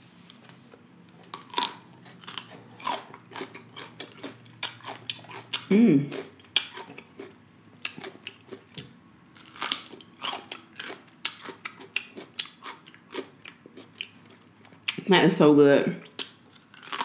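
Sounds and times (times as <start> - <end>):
cucumber being bitten and chewed: 0.3 - 15.0, 16.1 - 17.0.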